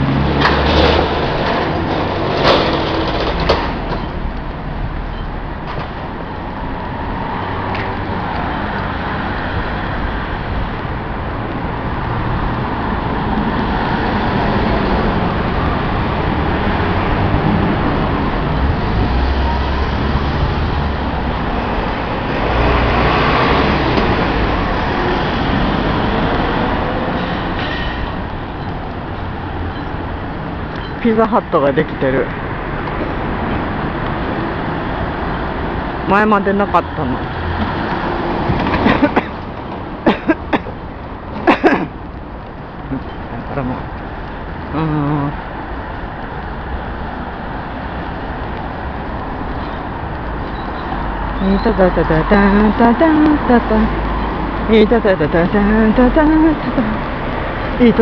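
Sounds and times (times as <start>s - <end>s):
passing cars and trucks: 0.0s - 58.0s.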